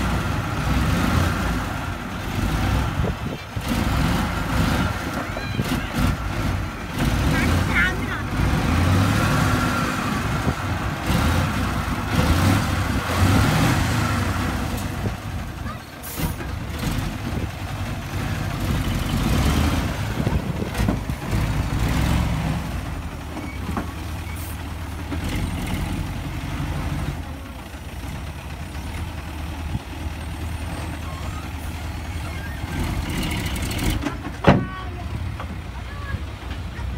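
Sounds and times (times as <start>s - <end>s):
dump truck diesel engine: 0.0s - 36.9s.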